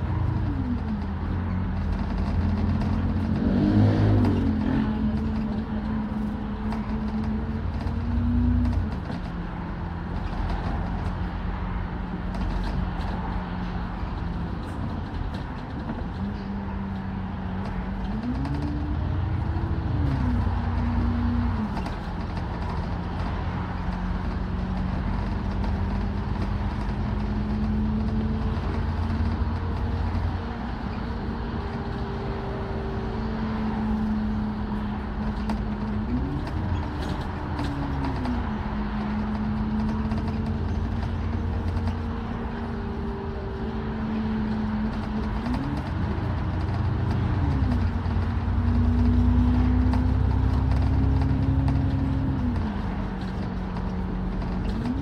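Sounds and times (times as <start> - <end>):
bus engine rumbling: 0.0 - 55.0.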